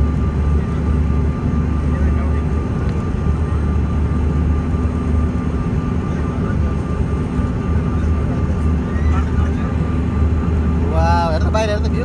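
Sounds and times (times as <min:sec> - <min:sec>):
airliner engines droning in cabin: 0:00.0 - 0:12.0.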